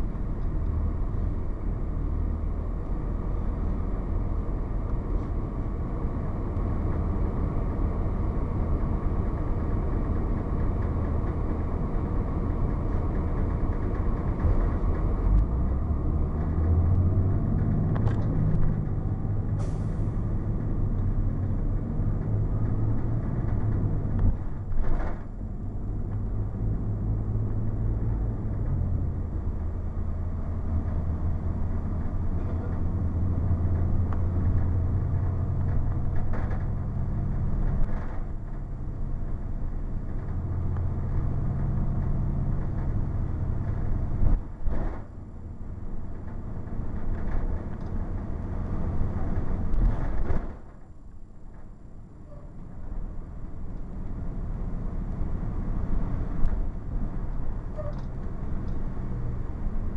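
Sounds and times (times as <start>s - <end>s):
bus diesel engine drone: 0.0s - 59.9s
road noise: 0.0s - 59.9s.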